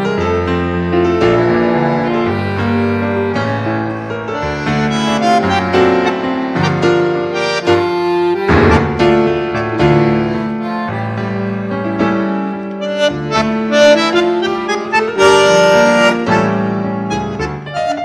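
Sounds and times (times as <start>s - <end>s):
bandoneon playing a tango: 0.0s - 18.0s.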